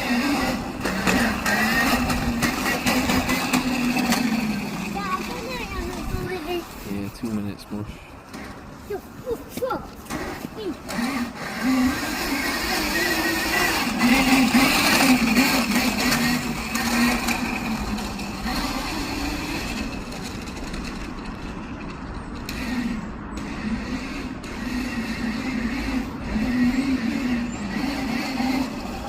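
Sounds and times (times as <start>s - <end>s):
electric dirt bike motor whining: 0.0s - 29.0s.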